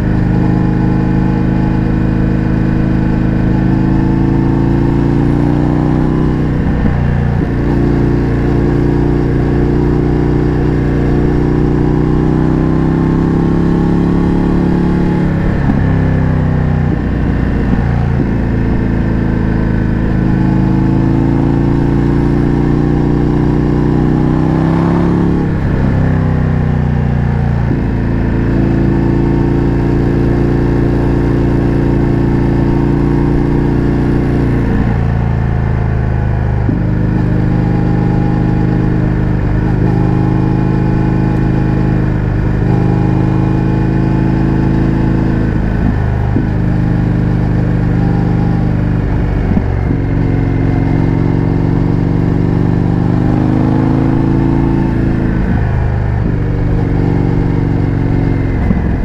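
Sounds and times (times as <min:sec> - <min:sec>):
motorcycle engine at road speed: 0:00.0 - 0:59.0.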